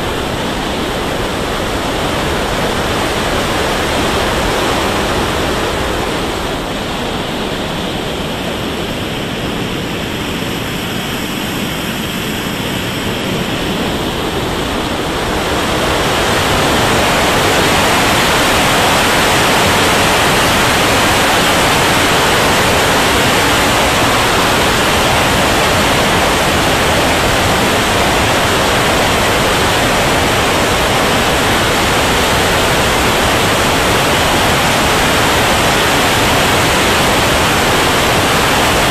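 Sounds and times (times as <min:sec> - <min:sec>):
model jet turbine noise: 0:00.0 - 0:38.9.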